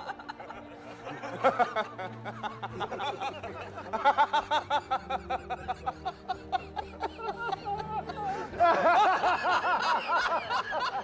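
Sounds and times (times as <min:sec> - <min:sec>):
background music: 0:00.0 - 0:11.0
men laughing: 0:00.0 - 0:11.0.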